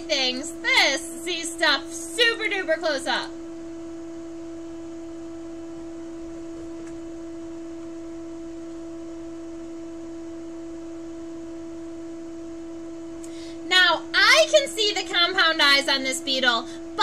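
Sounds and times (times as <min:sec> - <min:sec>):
steady electronic whine: 0:00.0 - 0:17.0.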